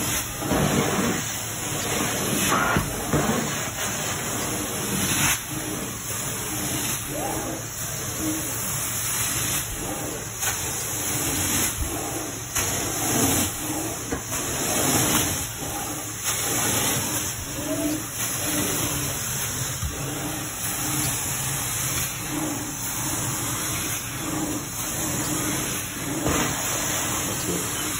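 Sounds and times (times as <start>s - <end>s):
steam cleaner spray and suction hiss: 0.0s - 27.9s.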